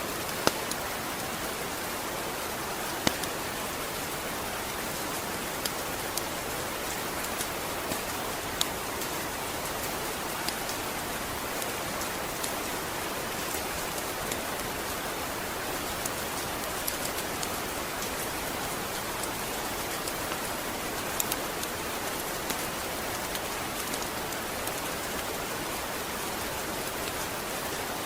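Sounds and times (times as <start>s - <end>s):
sharp ticks of raindrops: 0.0s - 28.0s
steady rain falling: 0.0s - 28.0s.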